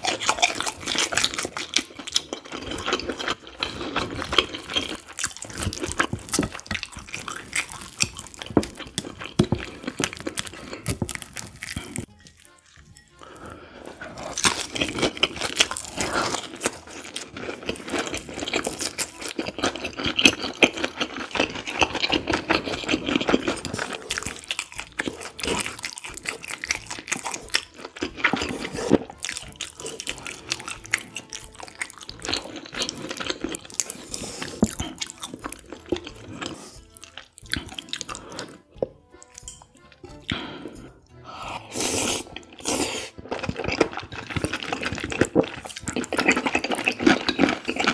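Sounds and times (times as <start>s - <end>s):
crunchy bites and chewing: 0.0s - 40.8s, 41.6s - 47.9s
chewing noodles: 0.0s - 47.9s.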